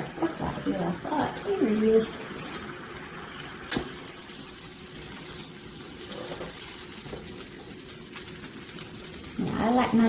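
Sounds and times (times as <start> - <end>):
sandwich sizzling in waffle maker: 0.0 - 10.0.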